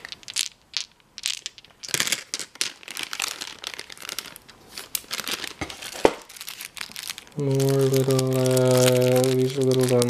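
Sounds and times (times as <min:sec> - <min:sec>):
plastic bag of dice crinkling: 0:00.0 - 0:10.0.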